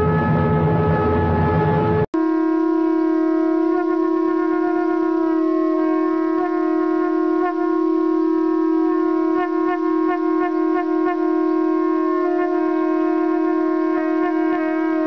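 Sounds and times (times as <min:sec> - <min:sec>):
conch shells blown in long note: 0:00.0 - 0:15.0.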